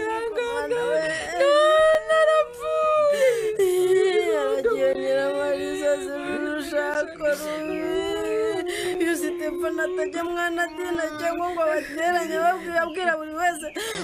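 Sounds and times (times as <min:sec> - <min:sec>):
mournful singing: 0:00.0 - 0:14.0.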